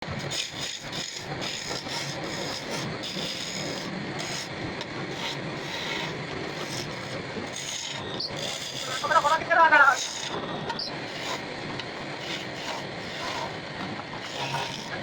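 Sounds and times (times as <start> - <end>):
tool rasping against wood: 0.1 - 15.0.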